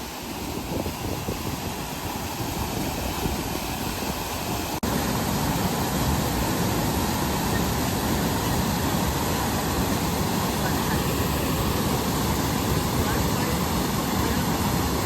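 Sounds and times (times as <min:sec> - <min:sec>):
waterfall and river rushing: 0:00.0 - 0:15.0.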